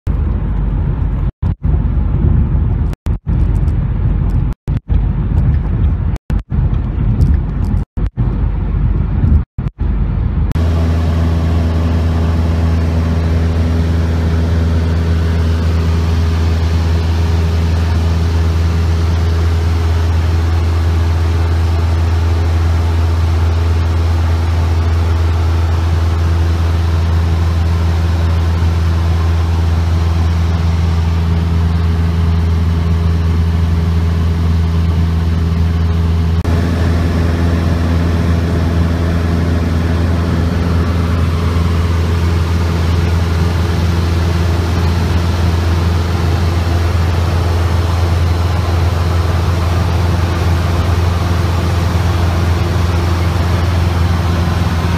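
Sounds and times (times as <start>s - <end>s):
airplane engine and propeller drone: 0.1s - 54.9s
car road and engine noise: 0.1s - 54.9s.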